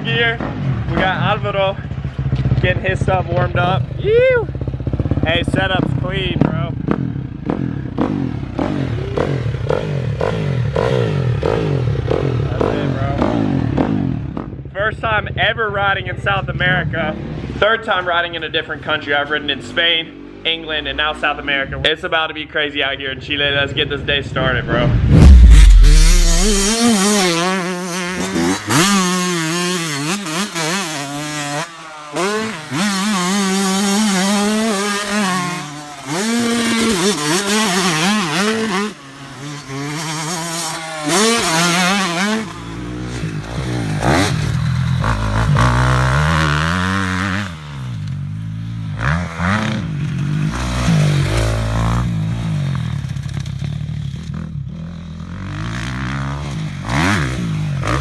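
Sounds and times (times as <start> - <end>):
dirt bike engines revving: 0.0 - 14.6, 24.4 - 58.0.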